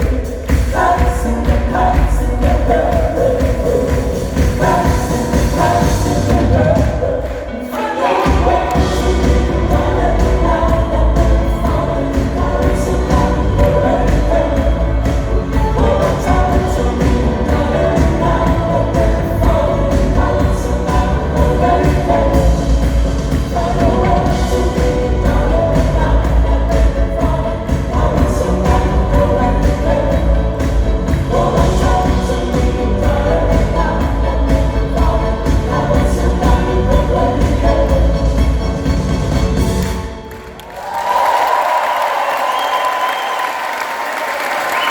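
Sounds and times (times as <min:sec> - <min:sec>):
heavy bass: 0:00.0 - 0:07.4, 0:08.3 - 0:40.3
person singing: 0:00.0 - 0:39.6
live pop band: 0:00.0 - 0:41.1.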